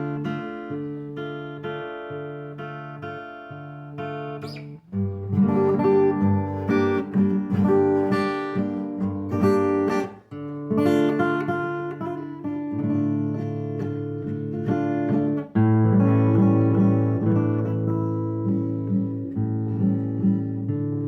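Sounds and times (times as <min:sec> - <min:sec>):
acoustic guitar waltz: 0:00.0 - 0:21.0.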